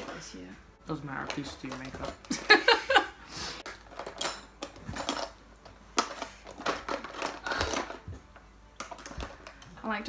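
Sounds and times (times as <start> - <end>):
makeup items clicking and rustling: 0.0 - 3.0, 3.6 - 9.9.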